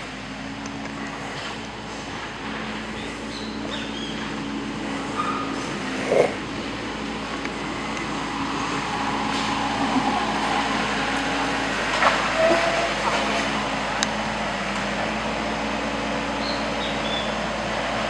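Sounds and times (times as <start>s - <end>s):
diesel engine running: 0.0s - 18.0s
rushing noise: 0.0s - 18.0s.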